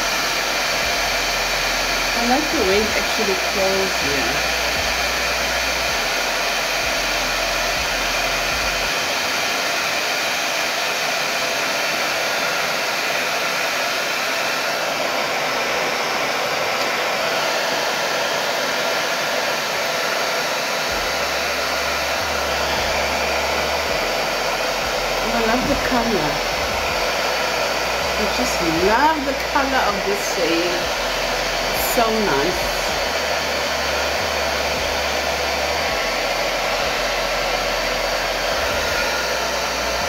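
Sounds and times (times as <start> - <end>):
hairdryer running: 0.0 - 40.0.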